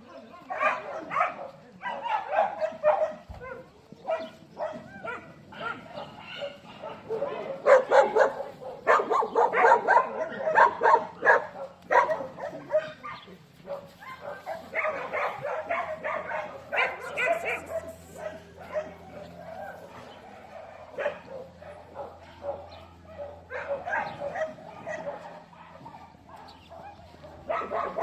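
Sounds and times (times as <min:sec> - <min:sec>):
dogs barking and yipping: 0:00.0 - 0:28.0.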